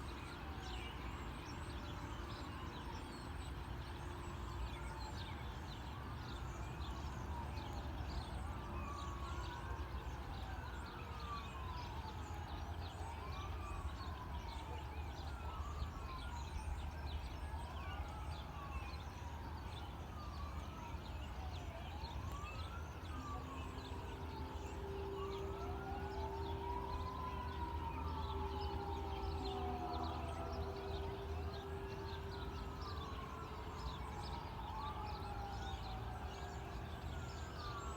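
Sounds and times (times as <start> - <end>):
emergency siren wailing: 0.0 - 37.9.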